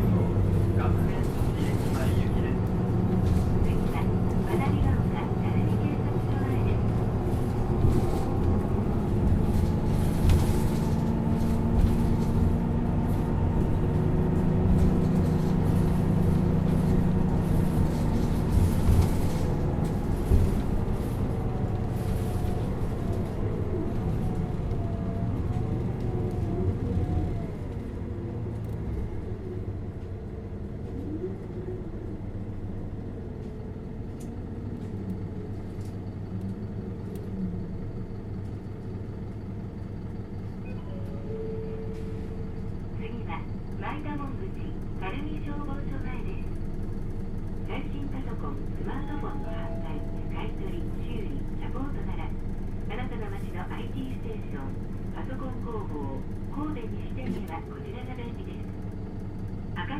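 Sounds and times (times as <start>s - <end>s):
bus diesel engine pulling under load: 0.0s - 59.9s.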